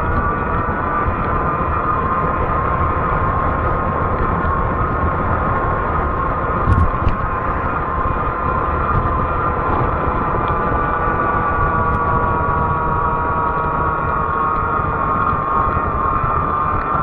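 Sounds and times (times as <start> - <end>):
e-bike motor whining hum: 0.0 - 17.0
low wind rumble: 0.0 - 17.0.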